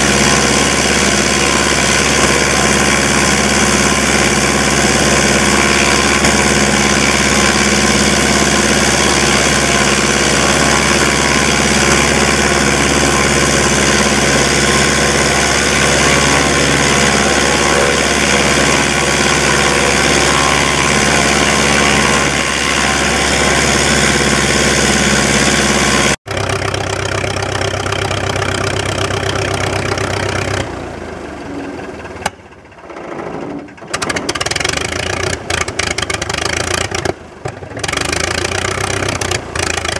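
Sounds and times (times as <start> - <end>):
aircraft engine and propeller running: 0.0 - 39.9.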